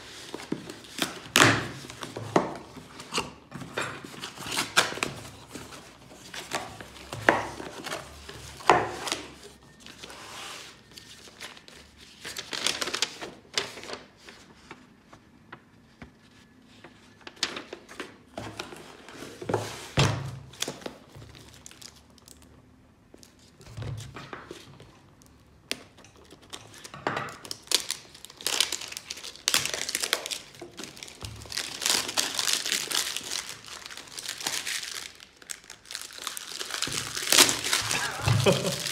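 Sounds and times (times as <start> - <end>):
crinkling and rustling handling: 0.0 - 38.9.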